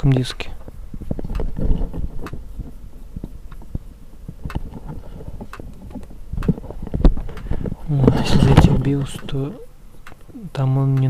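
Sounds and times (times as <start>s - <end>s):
hard drive clicking and knocking: 0.0s - 11.0s.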